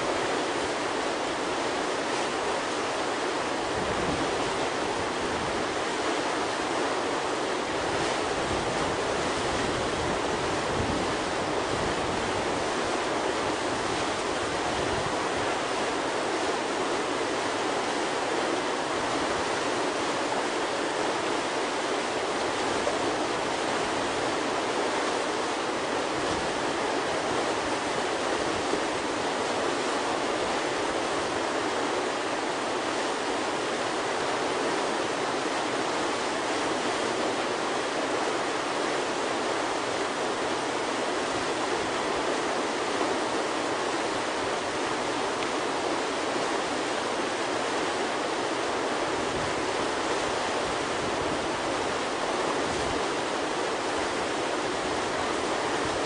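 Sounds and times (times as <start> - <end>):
whitewater rushing: 0.0 - 56.0.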